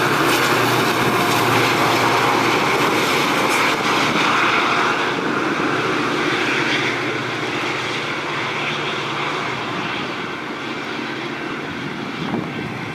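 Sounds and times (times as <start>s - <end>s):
train rumbling: 0.0s - 12.9s.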